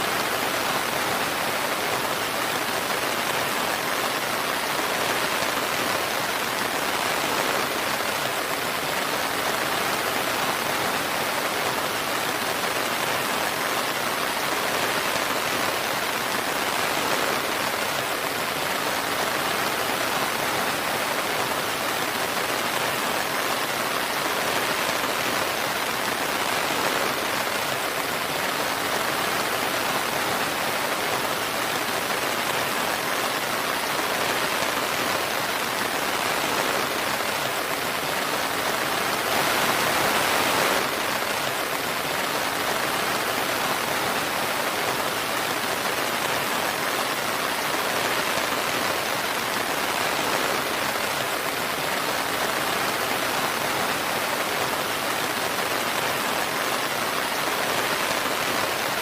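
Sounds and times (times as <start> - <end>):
dense rainfall hiss: 0.0 - 59.0.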